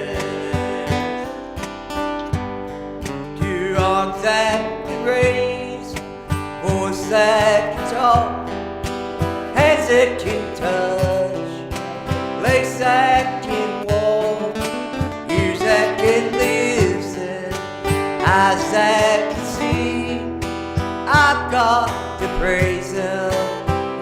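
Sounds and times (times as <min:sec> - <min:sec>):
guitar-led country band: 0:00.0 - 0:24.0.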